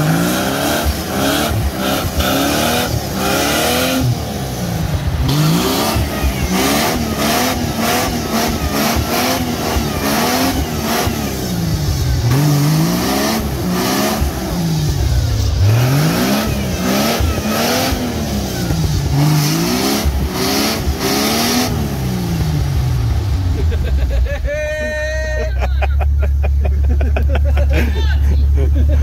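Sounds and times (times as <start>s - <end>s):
off-road engine revving: 0.0s - 29.0s.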